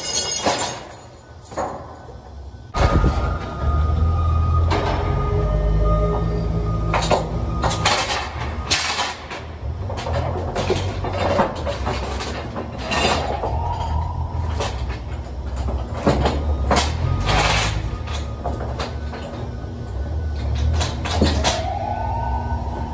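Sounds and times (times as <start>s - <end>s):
steel chains clanking: 0.0s - 21.8s
steady low hum: 0.9s - 22.9s.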